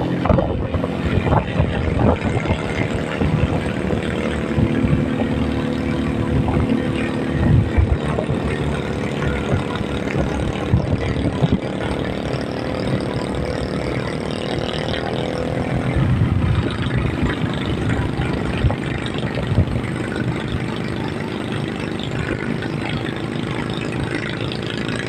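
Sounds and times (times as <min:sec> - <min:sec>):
road noise: 0:00.0 - 0:25.0
vehicle engine: 0:00.0 - 0:25.0.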